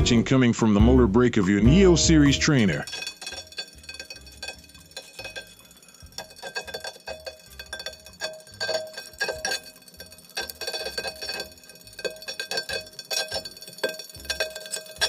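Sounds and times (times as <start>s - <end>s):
metallic clinks and ticks: 2.4s - 15.0s.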